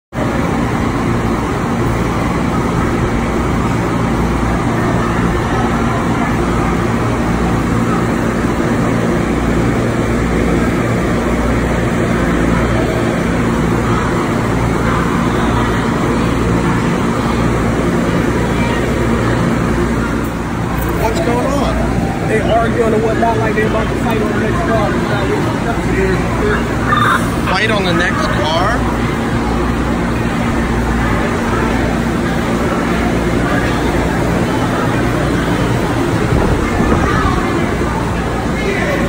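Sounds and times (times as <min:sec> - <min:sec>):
subway station rumble: 0:00.1 - 0:39.0.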